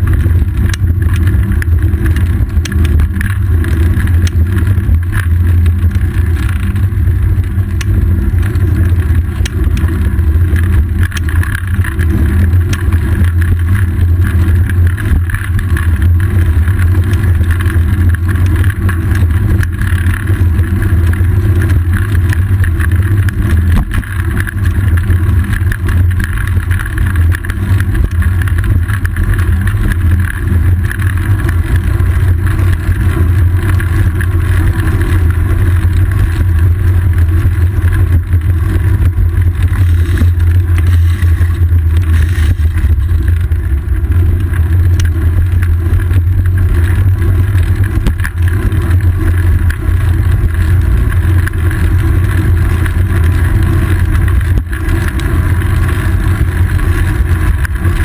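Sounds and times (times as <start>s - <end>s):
bicycle rumble: 0.0s - 58.0s
wind on microphone: 0.0s - 58.0s.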